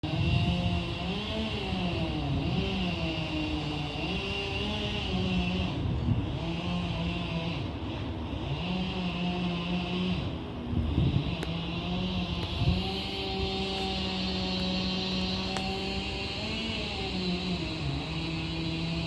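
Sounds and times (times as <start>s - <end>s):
electric train motors whining: 0.1s - 19.0s.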